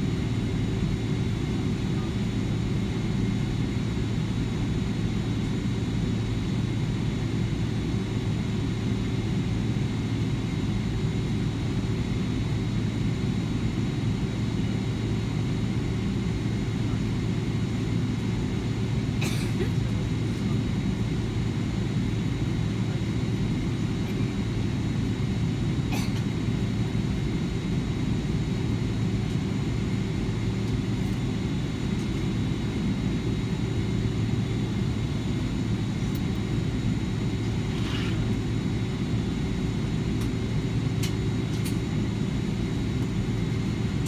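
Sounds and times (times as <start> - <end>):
airliner cabin low rumble: 0.0 - 44.0.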